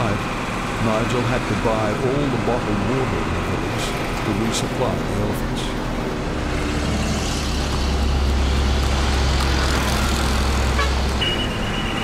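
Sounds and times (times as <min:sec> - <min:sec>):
heavy engine rumble: 0:00.0 - 0:12.0.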